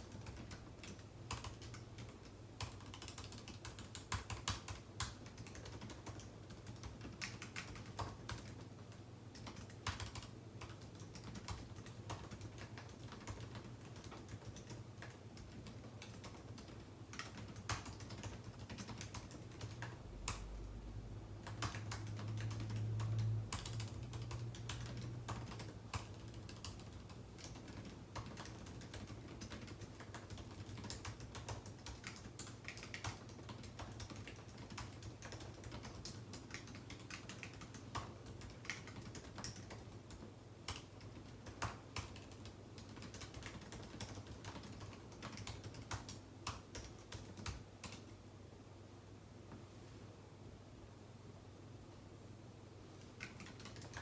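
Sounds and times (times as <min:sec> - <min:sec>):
computer keyboard typing: 0:00.0 - 0:20.8, 0:21.4 - 0:48.2, 0:52.9 - 0:54.0.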